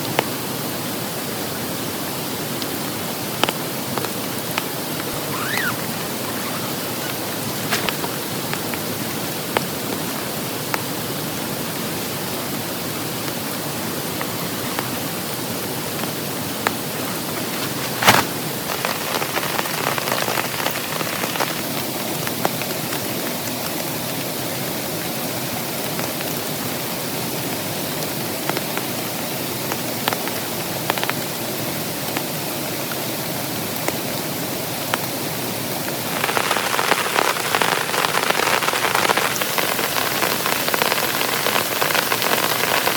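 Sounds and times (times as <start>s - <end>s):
heavy rain: 0.0s - 42.9s
raindrops striking close by: 0.0s - 42.9s.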